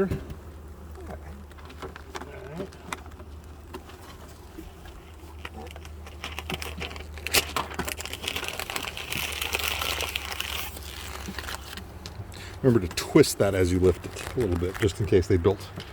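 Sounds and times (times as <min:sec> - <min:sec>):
wooden beehive parts rustling: 0:00.0 - 0:15.9.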